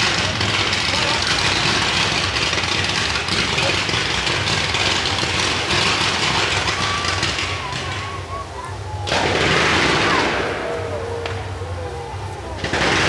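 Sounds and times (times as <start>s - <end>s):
fireworks crackling and rumbling: 0.0s - 13.0s.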